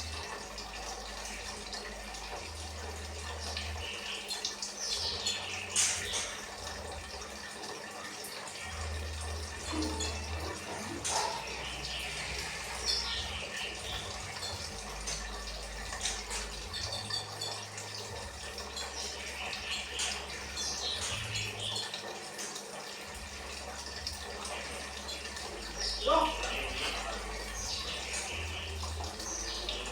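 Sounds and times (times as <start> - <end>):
songbird chirps and trills: 0.0 - 29.9.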